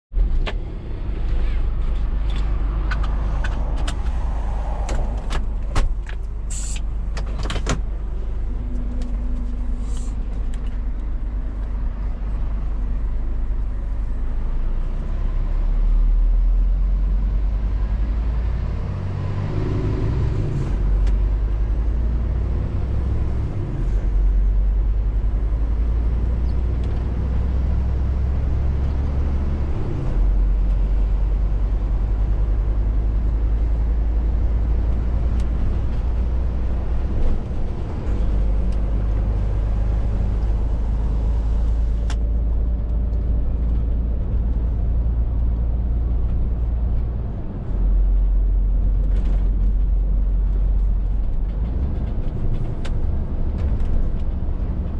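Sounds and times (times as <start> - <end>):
tyre and road noise: 0.1 - 54.9.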